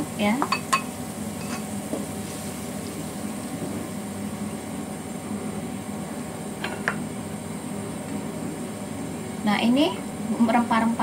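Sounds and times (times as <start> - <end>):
gas burner hiss: 0.0 - 10.4
water boiling in a wok: 0.0 - 11.0.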